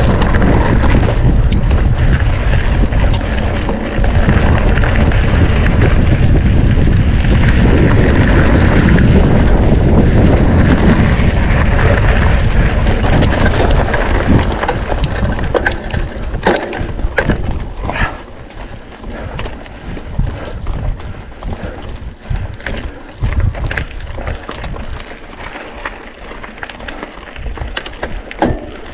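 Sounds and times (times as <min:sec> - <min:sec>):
tyres crunching over stones: 0:00.0 - 0:09.5, 0:10.4 - 0:28.9
bike clicks and rattles: 0:00.0 - 0:28.9
wind buffeting microphone: 0:00.0 - 0:28.9.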